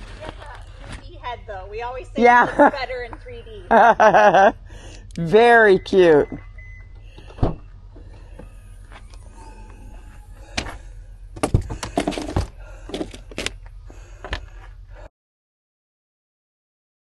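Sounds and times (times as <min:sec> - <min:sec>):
low steady hum: 0:00.0 - 0:15.1.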